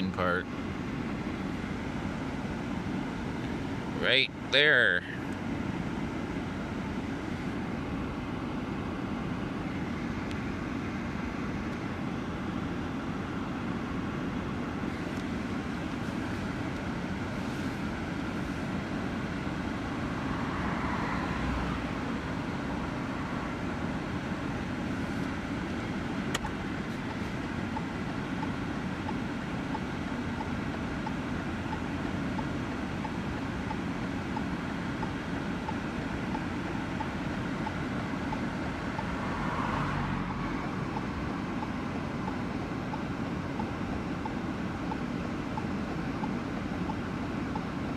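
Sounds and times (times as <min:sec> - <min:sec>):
car running rumble: 0:00.0 - 0:47.9.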